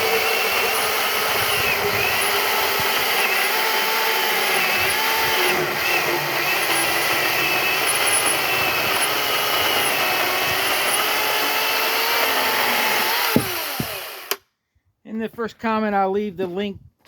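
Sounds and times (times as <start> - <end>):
electric chainsaw cutting wood: 0.0 - 14.4.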